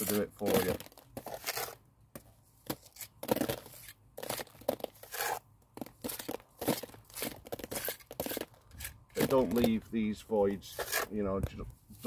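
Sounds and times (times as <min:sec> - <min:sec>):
trowel scraping gritty mortar: 0:00.0 - 0:01.8, 0:02.6 - 0:09.8, 0:10.6 - 0:12.0.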